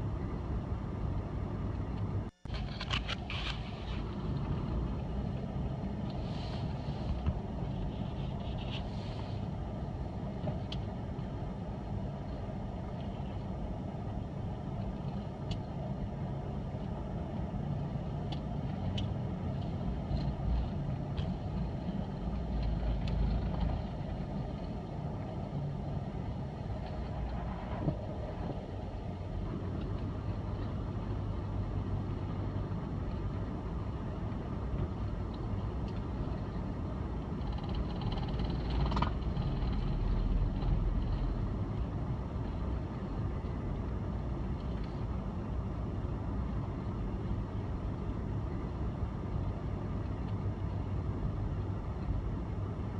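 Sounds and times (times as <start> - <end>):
vehicle engine and tyres rumbling: 0.0 - 52.9.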